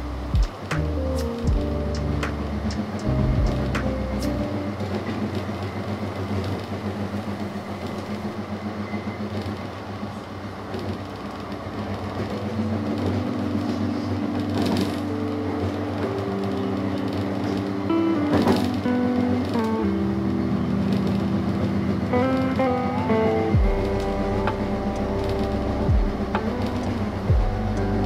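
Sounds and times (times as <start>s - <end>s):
tram wheels on rails: 0.0s - 28.0s.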